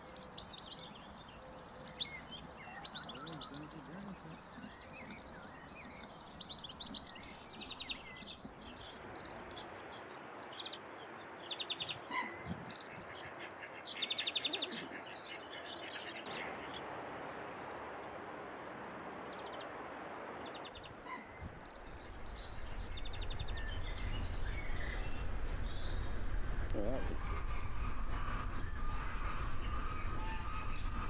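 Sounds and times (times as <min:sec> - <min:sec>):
birds calling and singing: 0:00.0 - 0:17.9, 0:19.2 - 0:31.0
steady background hiss: 0:00.0 - 0:31.0.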